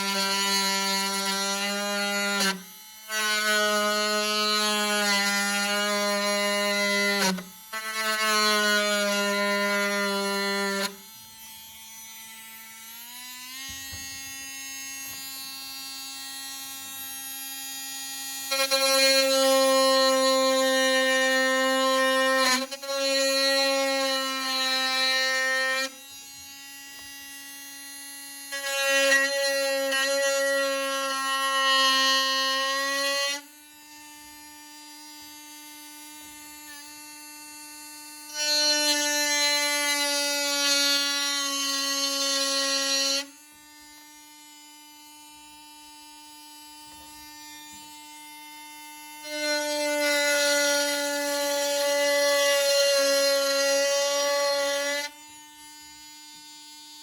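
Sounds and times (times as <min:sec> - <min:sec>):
rotary tool cutting plastic: 0:00.0 - 0:57.0.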